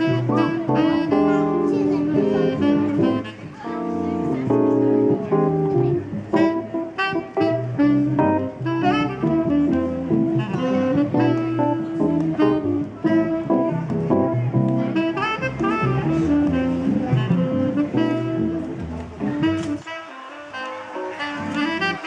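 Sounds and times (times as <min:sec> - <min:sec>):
upright bass: 0:00.0 - 0:19.8
saxophone: 0:00.0 - 0:22.0
stage piano: 0:00.0 - 0:22.0.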